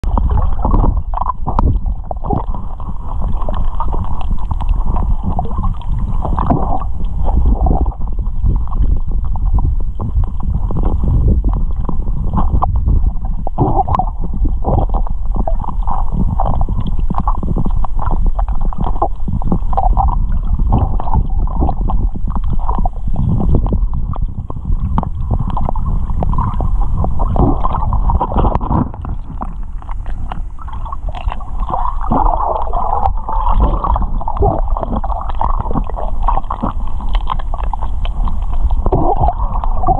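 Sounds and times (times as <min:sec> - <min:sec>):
muffled underwater rumble: 0:00.0 - 0:39.9
soft knocks and gurgles: 0:00.0 - 0:39.9.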